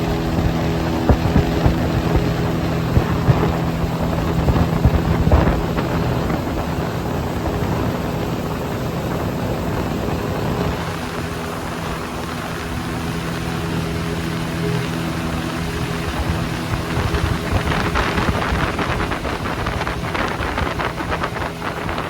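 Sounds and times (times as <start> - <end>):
outboard motor running: 0.0 - 22.0
rushing water: 0.0 - 22.0
wind: 0.0 - 22.0.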